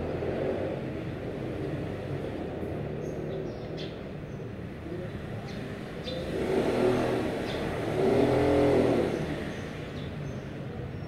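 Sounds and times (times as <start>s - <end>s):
steady traffic: 0.0s - 11.0s
vehicle engines passing by: 0.0s - 11.0s.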